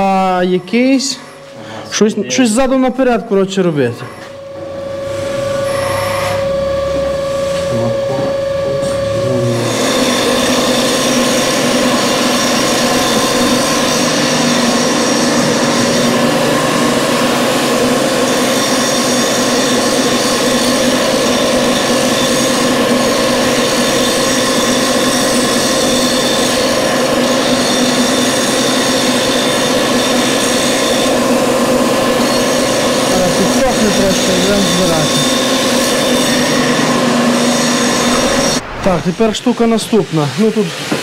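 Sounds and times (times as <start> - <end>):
machine running with whining tones: 0.0 - 41.0.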